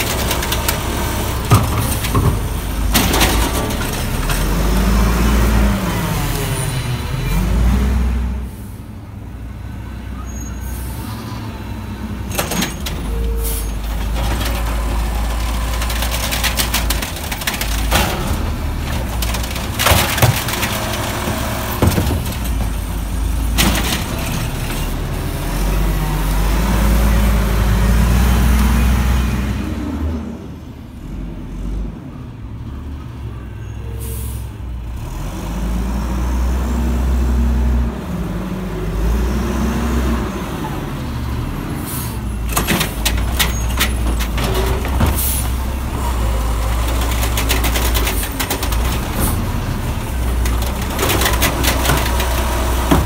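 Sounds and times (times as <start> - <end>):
garbage truck engine running: 0.0 - 8.3, 11.0 - 31.8, 36.5 - 53.0.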